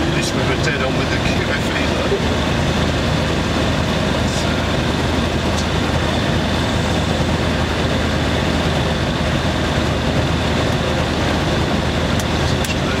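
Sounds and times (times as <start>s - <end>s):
aircraft piston engine running: 0.0s - 13.0s.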